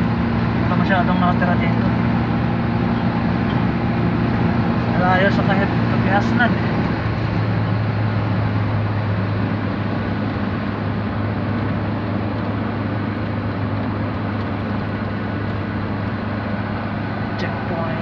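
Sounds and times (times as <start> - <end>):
car road and engine noise: 0.0 - 18.0
constant low hum: 0.0 - 18.0.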